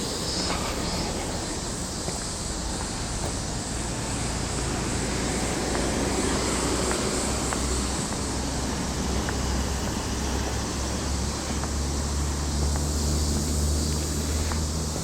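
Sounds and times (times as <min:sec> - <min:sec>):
distant traffic: 0:00.0 - 0:15.0.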